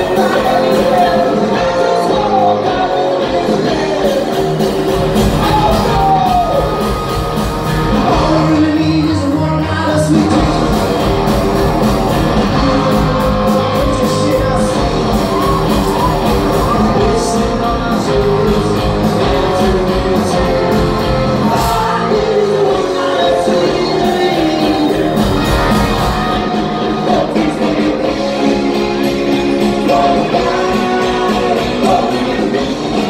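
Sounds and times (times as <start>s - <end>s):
person singing lead vocal: 0.0s - 7.0s, 7.9s - 33.0s
drums: 0.0s - 33.0s
electric guitars: 0.0s - 33.0s
keyboards: 0.0s - 33.0s.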